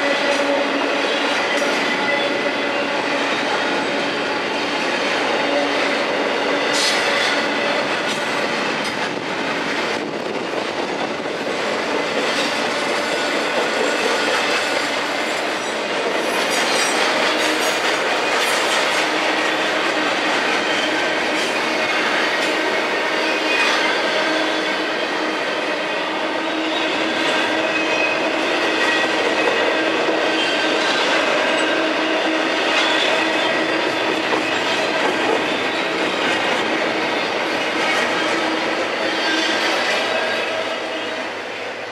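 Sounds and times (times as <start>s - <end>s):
wheels squealing on rail: 0.0s - 11.0s, 11.9s - 41.9s
freight train rolling past: 0.0s - 41.9s.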